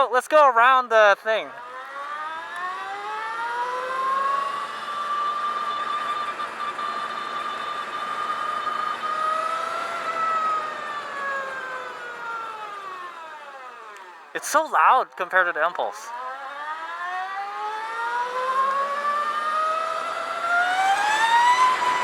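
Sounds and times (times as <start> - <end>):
electric motorcycle drive whine: 1.3 - 22.0.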